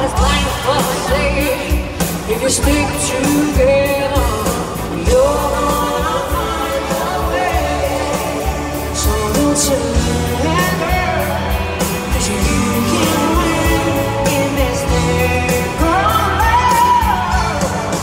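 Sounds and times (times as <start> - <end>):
drums: 0.0 - 18.0
electric guitar: 0.0 - 18.0
piano: 0.0 - 18.0
woman singing: 0.0 - 18.0.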